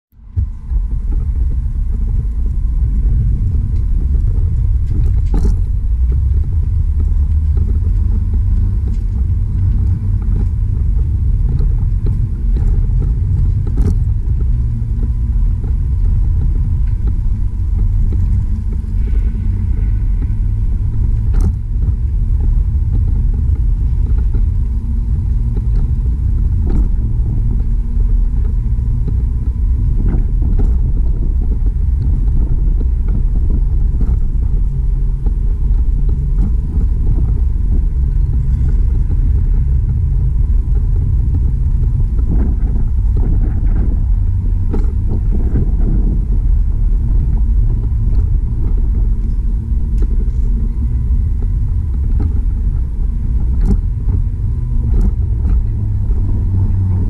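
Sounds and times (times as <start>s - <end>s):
wind buffeting microphone: 0.1s - 57.0s
tyre noise on pavement: 0.2s - 57.0s.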